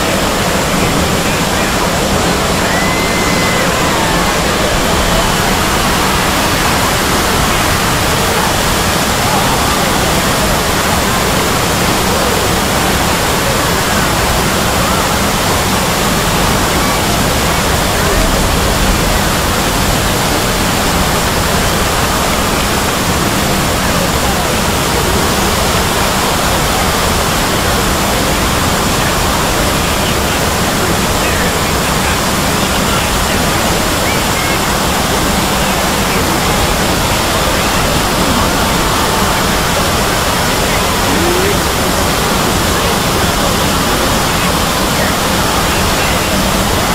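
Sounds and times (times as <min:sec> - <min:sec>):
loud steady hiss of noise: 0:00.0 - 0:46.9
traces of voices: 0:00.0 - 0:46.9.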